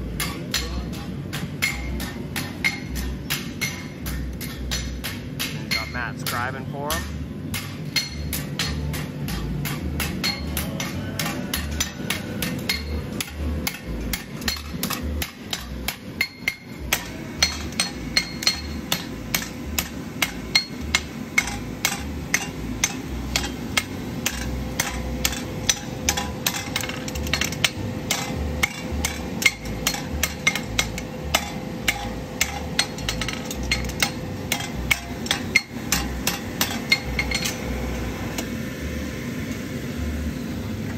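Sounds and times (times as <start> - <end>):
hammers striking steel: 0.0 - 39.2.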